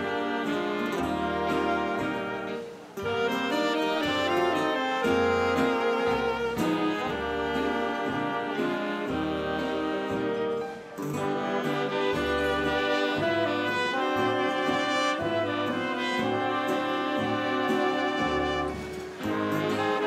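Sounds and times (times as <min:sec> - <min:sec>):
big band playing slow ballad: 0:00.0 - 0:20.0.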